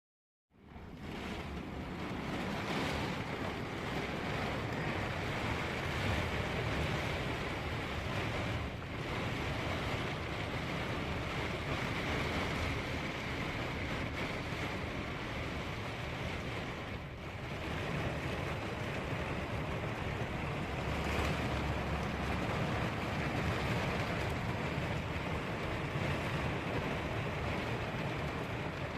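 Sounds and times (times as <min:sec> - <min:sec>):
heavy rain: 0:00.6 - 0:28.9
wind buffeting microphone: 0:00.8 - 0:28.9.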